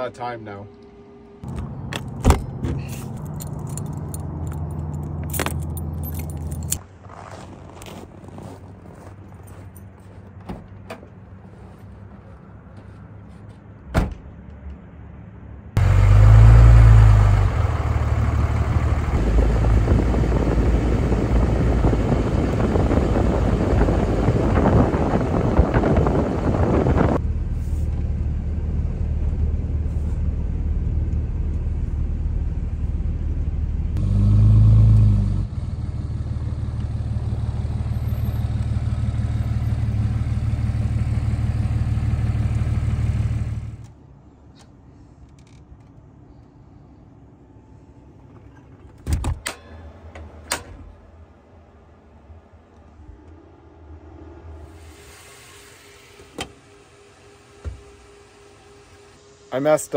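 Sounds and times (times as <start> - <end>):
truck engine drone: 0.0 - 13.6, 14.4 - 59.9
tyre and road noise: 1.4 - 59.9.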